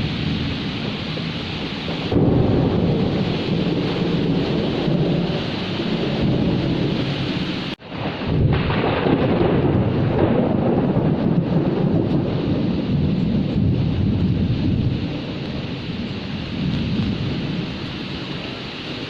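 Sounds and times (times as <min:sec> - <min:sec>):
heavy rain: 0:00.0 - 0:19.0
low rumble of thunder: 0:00.0 - 0:19.0.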